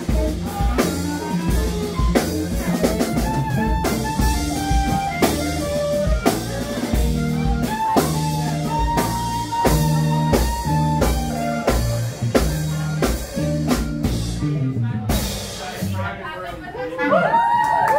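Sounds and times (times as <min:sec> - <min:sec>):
drum hits: 0:00.0 - 0:14.5
clarinet long notes: 0:00.0 - 0:14.9
electric guitar: 0:00.0 - 0:15.9
upright bass: 0:00.0 - 0:16.8.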